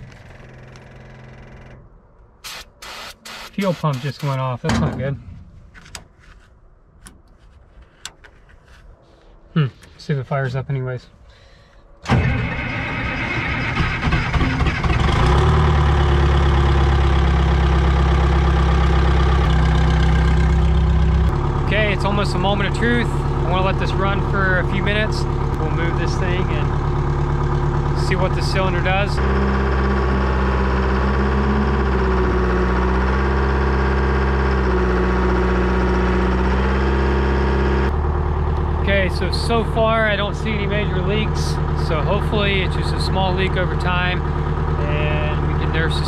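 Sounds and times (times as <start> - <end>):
diesel engine cranking and running: 0.0 - 6.0, 11.3 - 46.0.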